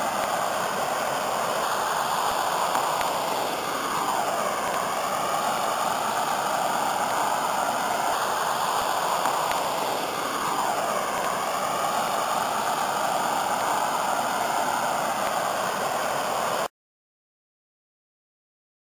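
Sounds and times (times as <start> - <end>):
water rushing over waterfall: 0.0 - 16.7.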